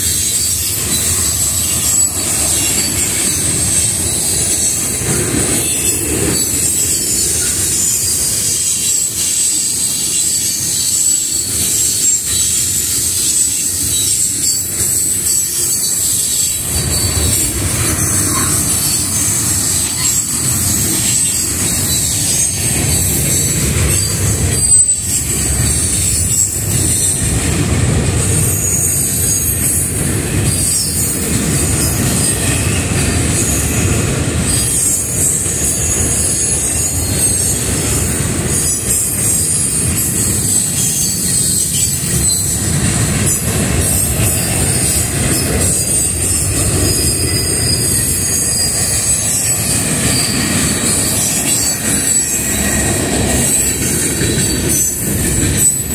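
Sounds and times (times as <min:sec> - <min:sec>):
high-pitched wheel whine: 0:00.0 - 0:55.9
train wheels rumbling on rails: 0:00.0 - 0:55.9.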